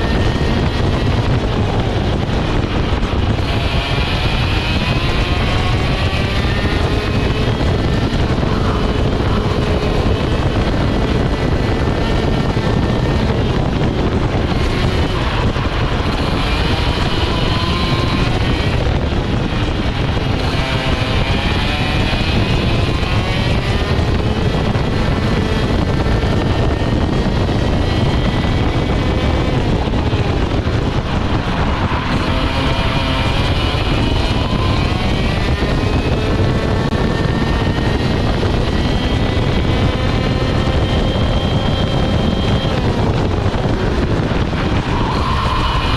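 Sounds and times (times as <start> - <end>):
kart engine revving: 0.0 - 45.9.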